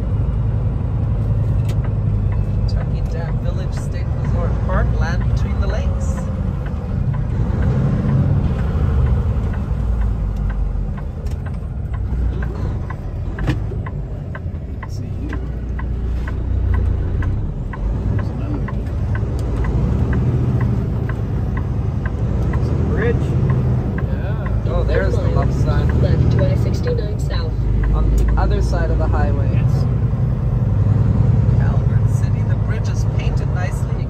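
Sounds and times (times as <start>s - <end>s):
truck road and engine rumble: 0.0s - 34.0s
turn signal ticking: 0.0s - 34.0s.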